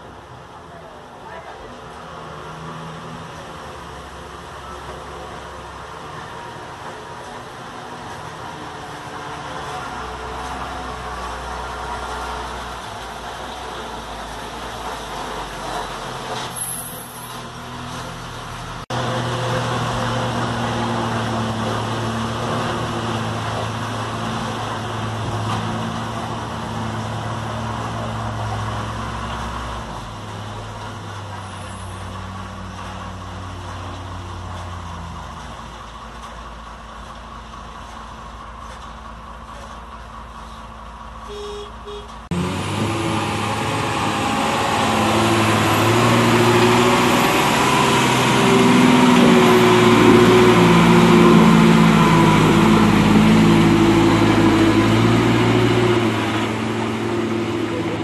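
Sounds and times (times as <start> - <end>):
truck engine working hard: 2.0 - 58.0
diesel engine running: 6.6 - 58.0.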